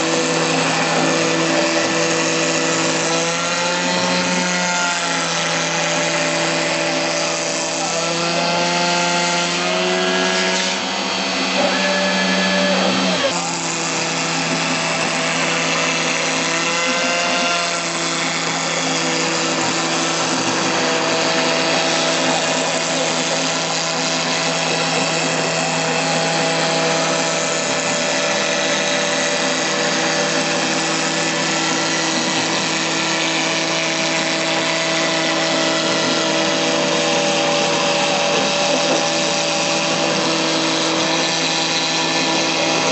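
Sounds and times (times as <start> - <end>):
cnc router spindle running: 0.0 - 42.9.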